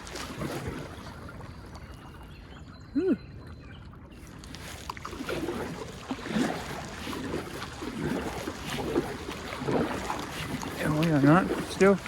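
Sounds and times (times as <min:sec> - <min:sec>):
kayak paddle strokes in water: 0:00.0 - 0:02.0, 0:04.2 - 0:12.0
rushing water: 0:00.0 - 0:12.0
wind: 0:00.0 - 0:12.0.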